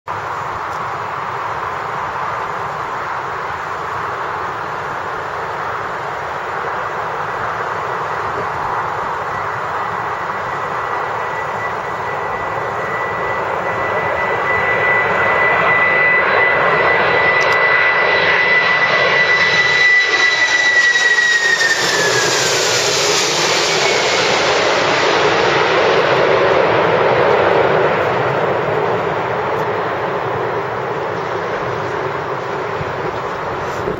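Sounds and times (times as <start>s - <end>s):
jet engine roar: 0.1s - 33.9s
jet engine whine: 0.1s - 33.9s.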